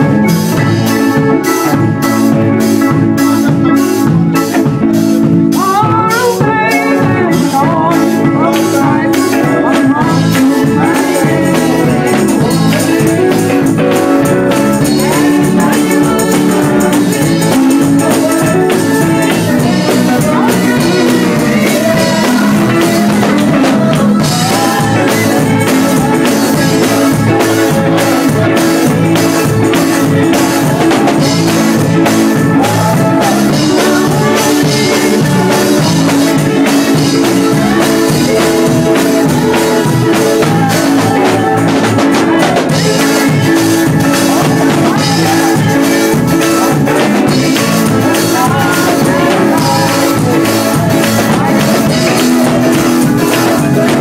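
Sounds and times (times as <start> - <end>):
drum kit beat: 0.0 - 54.0
electric guitar: 0.0 - 54.0
man singing into a microphone: 0.0 - 54.0.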